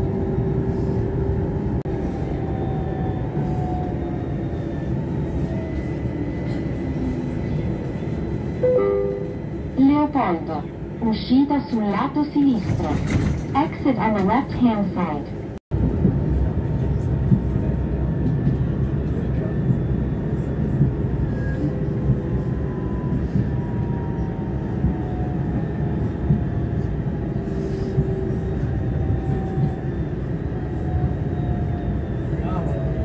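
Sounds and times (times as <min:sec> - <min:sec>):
tram rumbling on rails: 0:00.0 - 0:33.0.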